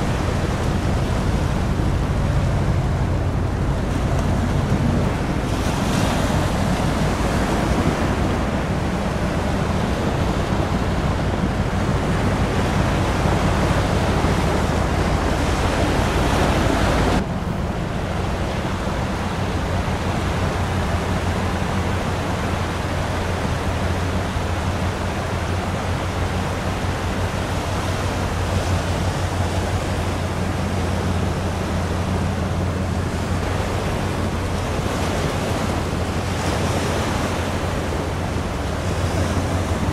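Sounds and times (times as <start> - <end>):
ship machinery drone: 0.0 - 39.9
water noise: 0.0 - 39.9
wind: 0.0 - 39.9.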